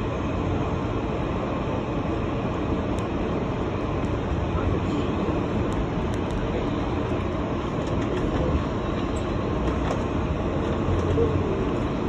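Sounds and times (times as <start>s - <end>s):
subway train rumbling underground: 0.0s - 12.0s.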